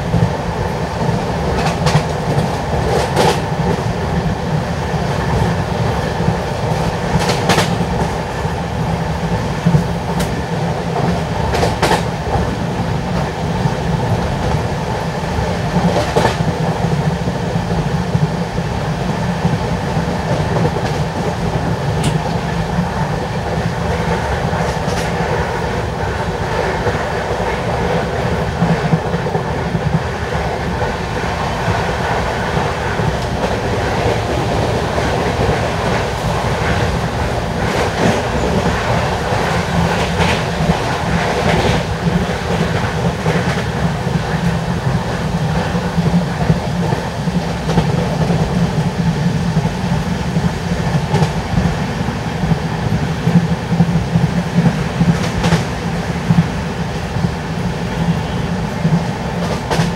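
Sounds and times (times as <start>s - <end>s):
wheels rumbling on rails: 0.0s - 59.9s.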